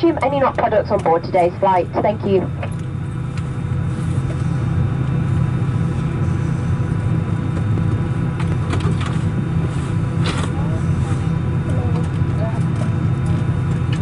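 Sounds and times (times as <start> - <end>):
cabin air-conditioning hum: 0.0 - 14.0
faint steady whine: 0.0 - 14.0.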